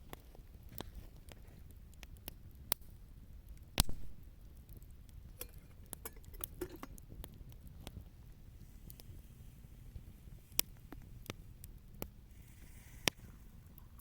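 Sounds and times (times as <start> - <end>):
campfire crackling and snapping: 0.0 - 14.0.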